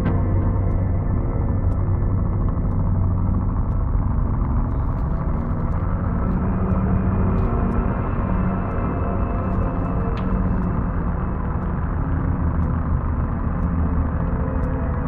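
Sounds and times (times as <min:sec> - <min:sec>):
low ambient drone: 0:00.0 - 0:15.0.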